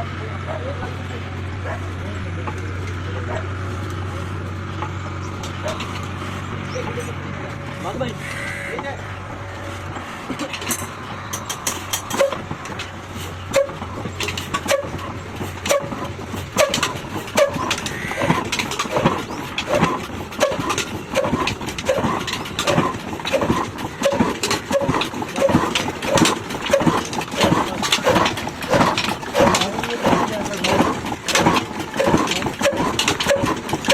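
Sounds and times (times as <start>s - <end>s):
diesel engine starting up: 0.0s - 33.9s.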